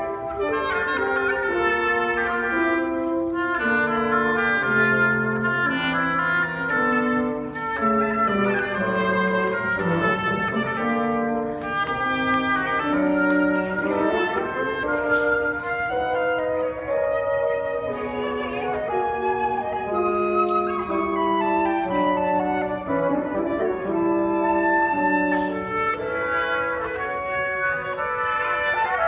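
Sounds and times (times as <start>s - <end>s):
woodwind ensemble playing chords: 0.0s - 29.0s.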